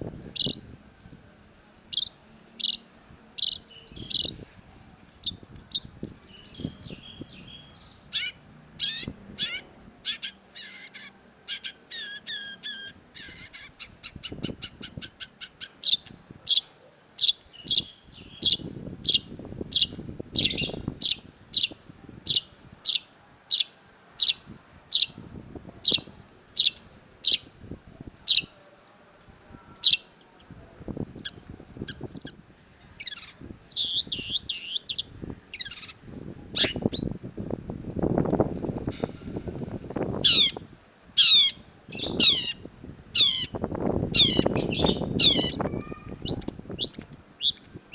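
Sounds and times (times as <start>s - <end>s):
shrike singing: 0.3s - 25.2s, 31.2s - 37.2s, 40.0s - 47.6s.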